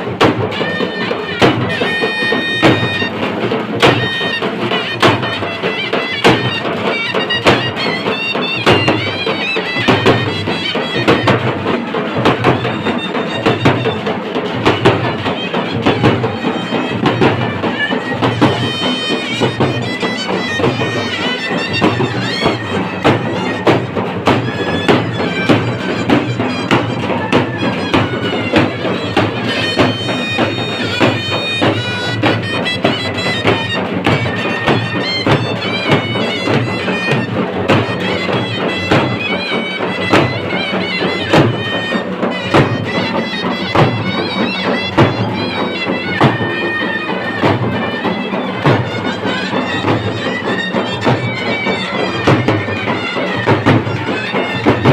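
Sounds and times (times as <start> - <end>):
drums beating: 0.0 - 54.9
reed wind instrument melody: 0.0 - 54.9.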